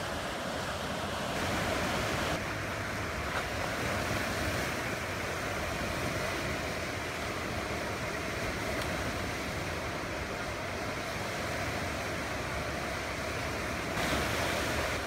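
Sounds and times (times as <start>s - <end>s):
white water rushing: 0.0s - 15.0s.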